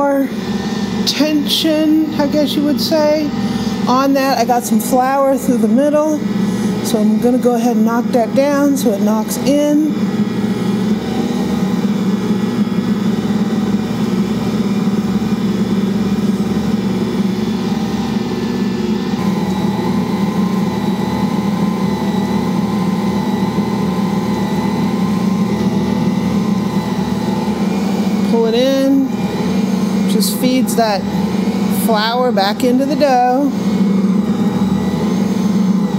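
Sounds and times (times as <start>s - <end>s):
stand mixer motor hum: 0.0s - 35.9s.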